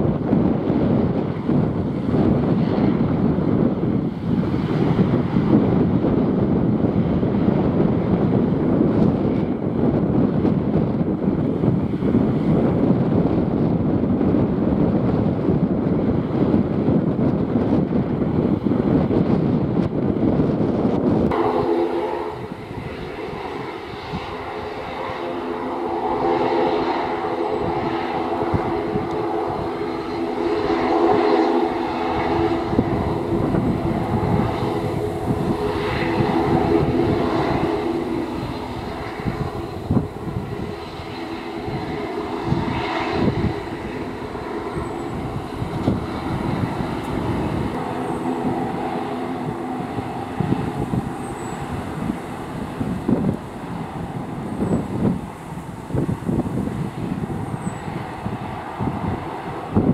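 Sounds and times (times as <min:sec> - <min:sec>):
turboprop airliner taxiing: 0:00.0 - 0:59.9.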